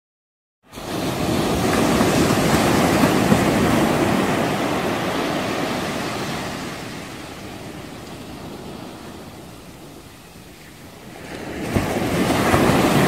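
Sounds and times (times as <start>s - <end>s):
sea water rushing past boat: 0.7s - 13.0s.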